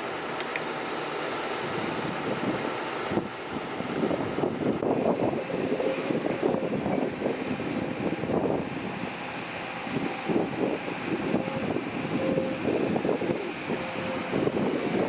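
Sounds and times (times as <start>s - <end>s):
earthmoving machine diesel engine: 0.0s - 15.0s.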